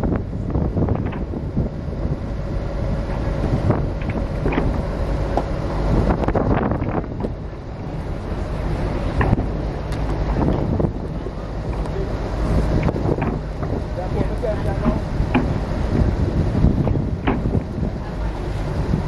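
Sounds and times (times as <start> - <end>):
water rushing along hull: 0.0 - 19.0
water splashes: 0.0 - 19.0
wind buffeting microphone: 0.0 - 19.0.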